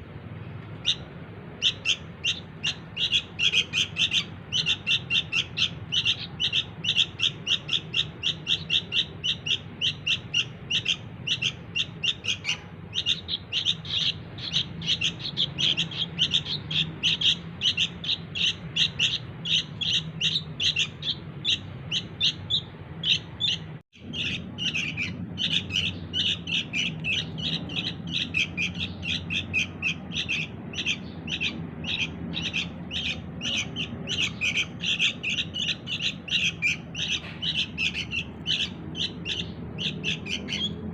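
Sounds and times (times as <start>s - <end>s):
bird chicks chirping: 0.0s - 40.9s.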